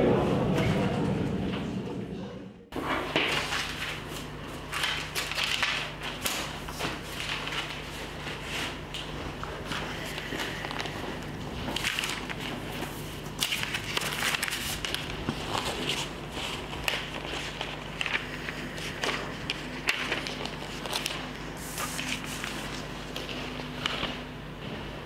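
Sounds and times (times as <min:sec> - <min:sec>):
low room hum: 0:00.0 - 0:25.0
paper rustling and shuffling: 0:02.8 - 0:25.0.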